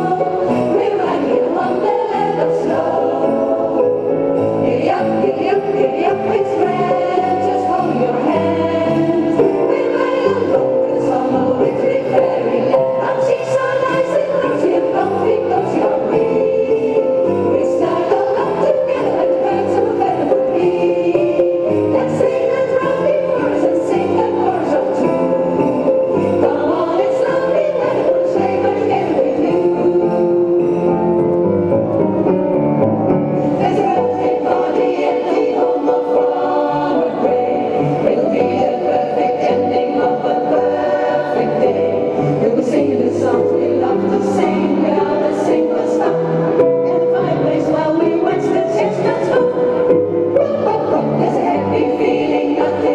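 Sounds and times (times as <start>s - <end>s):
women's choir singing: 0.0s - 31.4s, 33.2s - 52.9s.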